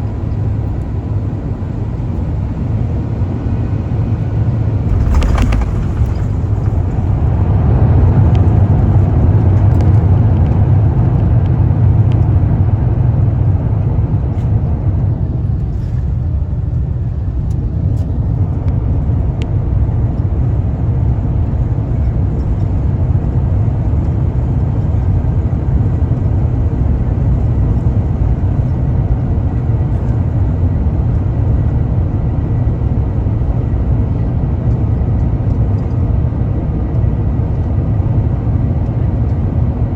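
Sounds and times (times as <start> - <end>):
airliner engines roaring in cabin: 0.0 - 39.9.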